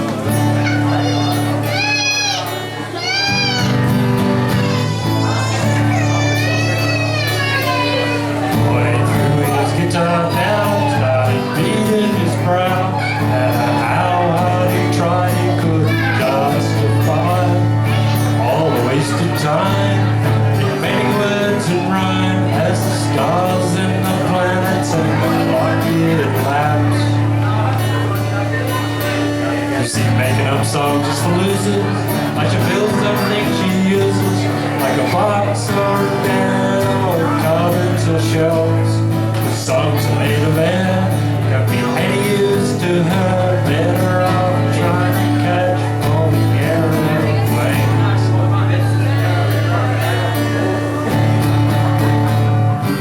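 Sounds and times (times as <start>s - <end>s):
acoustic guitar music: 0.0s - 53.0s
man singing: 0.0s - 53.0s.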